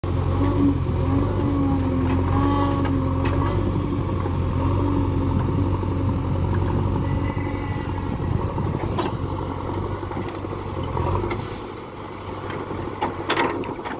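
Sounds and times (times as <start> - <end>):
heavy diesel engine droning: 0.0 - 13.9.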